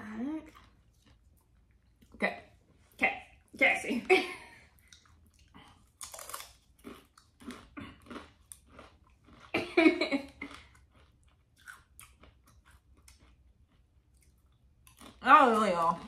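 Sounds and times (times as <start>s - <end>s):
chewing crunchy chips: 0.1s - 2.2s, 4.7s - 16.0s.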